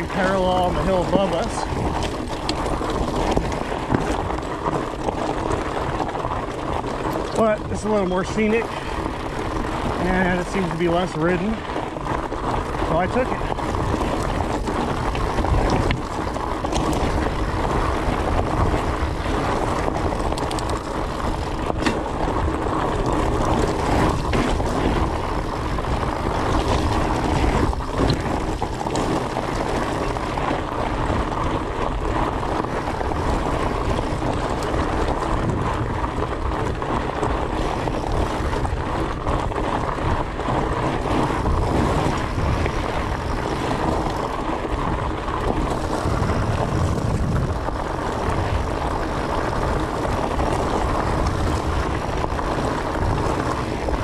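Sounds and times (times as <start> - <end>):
bike tyres rolling over rocks: 0.0 - 54.0
gravel and bike rattling: 0.0 - 54.0
wind rush on microphone: 0.0 - 54.0.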